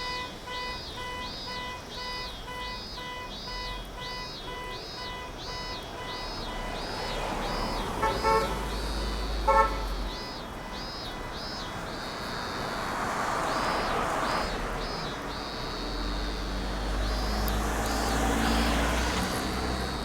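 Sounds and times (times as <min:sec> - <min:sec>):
car horn toots: 0:00.0 - 0:20.0
high pulsing call: 0:00.0 - 0:20.0
street traffic: 0:00.0 - 0:20.0.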